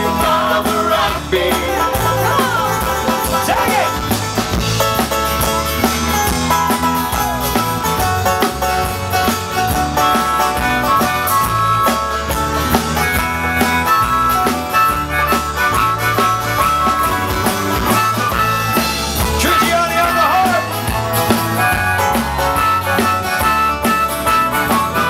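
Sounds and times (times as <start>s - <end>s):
electric bass: 0.0s - 25.0s
harmonica lead with bends: 0.0s - 25.0s
strummed acoustic guitars: 0.0s - 25.0s.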